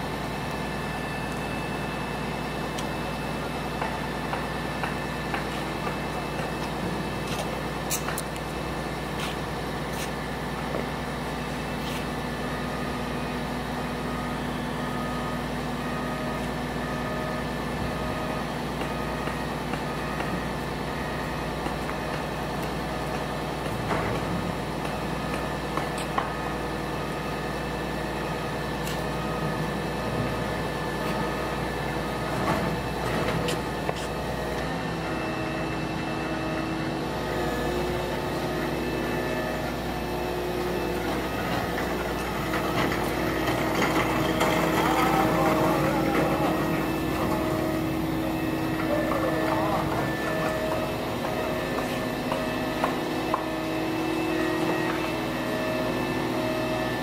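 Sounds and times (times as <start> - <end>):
excavator running: 0.0 - 57.0.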